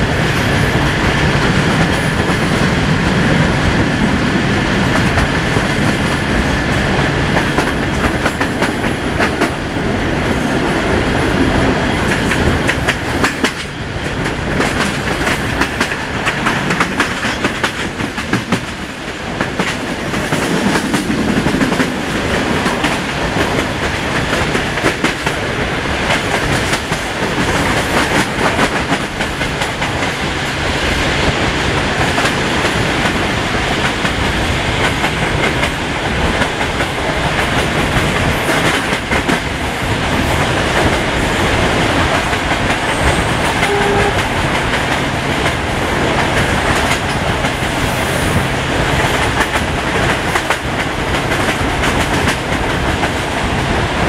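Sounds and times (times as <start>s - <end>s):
steady train rumble: 0.0s - 54.0s
train wheels clickety-clack: 0.0s - 54.0s.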